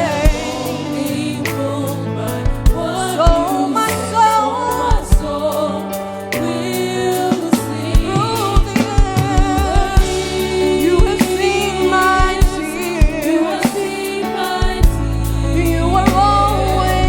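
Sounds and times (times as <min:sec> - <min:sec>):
drum kit: 0:00.0 - 0:17.0
keyboard chords: 0:00.0 - 0:17.0
singers with vibrato: 0:00.0 - 0:17.0.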